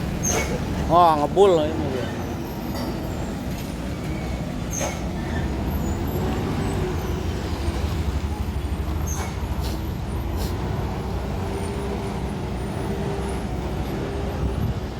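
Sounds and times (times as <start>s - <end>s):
diesel truck engine running: 0.0s - 14.9s.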